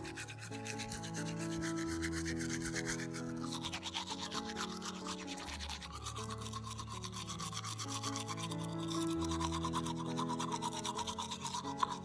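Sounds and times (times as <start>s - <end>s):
background music: 0.0s - 12.0s
toothbrush scrubbing teeth: 0.0s - 12.0s.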